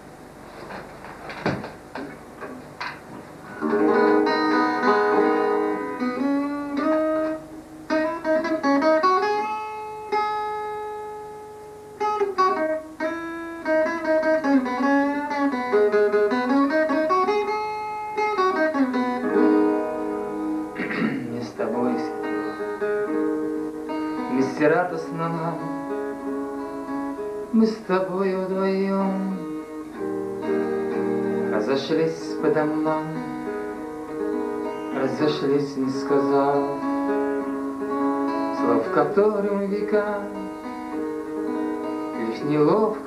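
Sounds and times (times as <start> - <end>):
acoustic guitar picking: 0.0 - 43.0.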